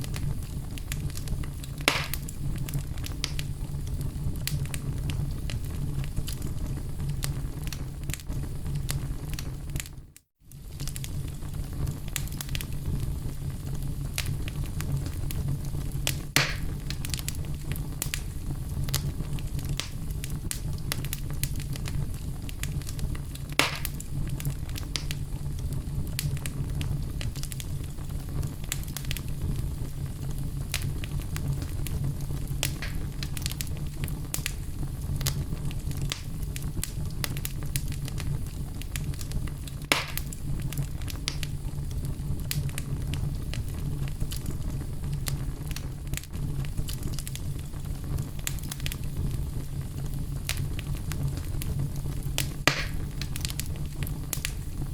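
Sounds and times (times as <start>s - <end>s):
fire crackling: 0.0s - 54.9s
fire pops: 0.0s - 54.9s.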